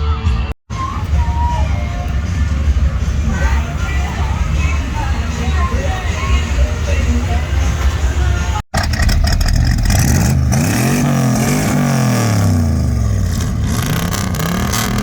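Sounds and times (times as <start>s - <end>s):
car engine revving: 0.9s - 15.0s.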